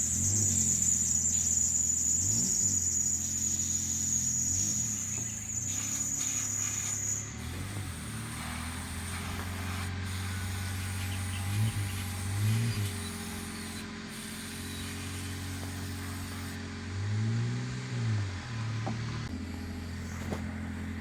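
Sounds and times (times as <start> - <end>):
motor humming: 0.0 - 16.6, 19.3 - 21.0.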